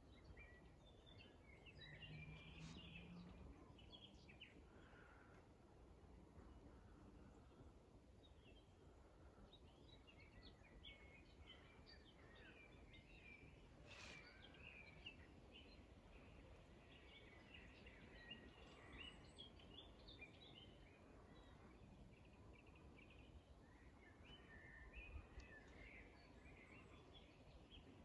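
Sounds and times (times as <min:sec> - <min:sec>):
low steady hiss: 0:00.0 - 0:28.0
songbirds chirping and trilling: 0:00.0 - 0:28.0.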